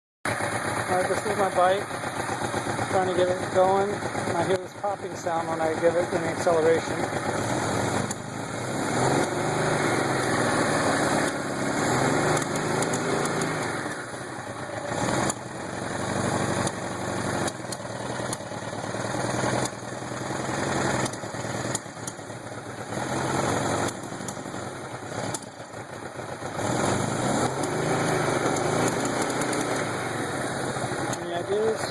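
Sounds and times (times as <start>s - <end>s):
motorcycle engine revving: 0.3s - 31.9s.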